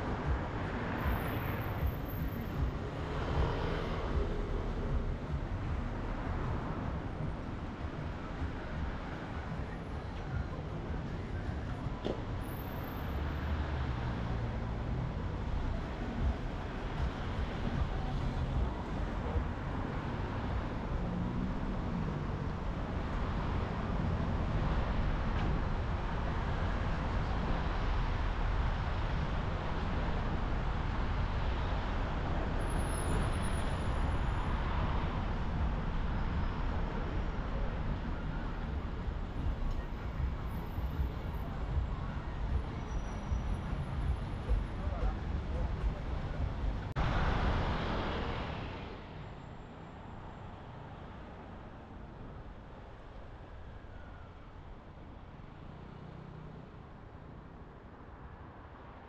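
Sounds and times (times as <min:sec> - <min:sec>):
car engine and tyre rumble: 0:00.0 - 0:59.0
other vehicles in traffic: 0:00.0 - 0:59.0.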